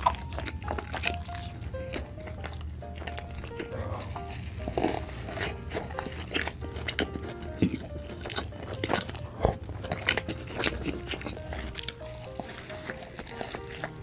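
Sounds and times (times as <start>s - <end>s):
background music: 0.0s - 14.0s
biting and chewing: 0.0s - 14.0s
mouth smacks and crunches: 0.0s - 14.0s.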